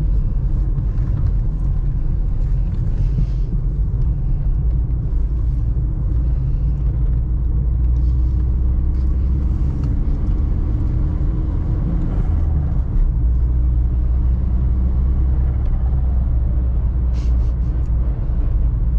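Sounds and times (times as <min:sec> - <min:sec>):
car engine and road rumble: 0:00.0 - 0:18.9.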